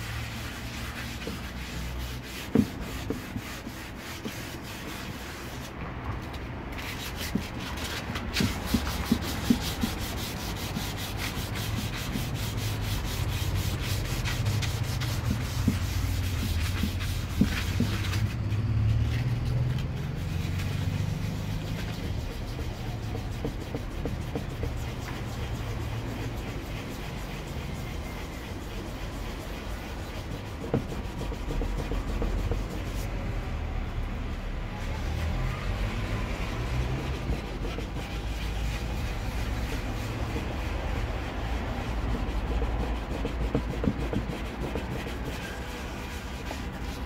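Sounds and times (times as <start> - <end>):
sandpaper scrubbing plastic: 0.0 - 47.0.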